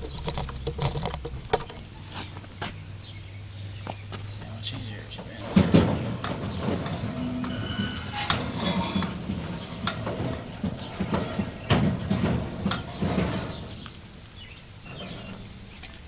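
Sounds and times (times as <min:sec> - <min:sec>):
metal gears clicking and creaking: 0:00.0 - 0:02.5, 0:05.1 - 0:16.0.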